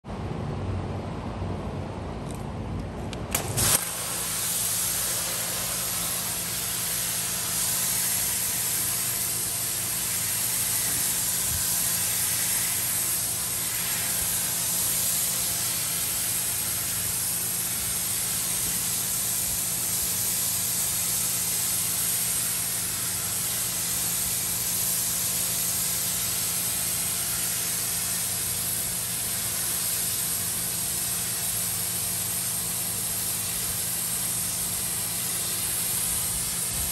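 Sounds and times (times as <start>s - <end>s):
pressure washer hum: 3.3s - 36.9s
pressure washer spray hiss: 3.4s - 36.9s.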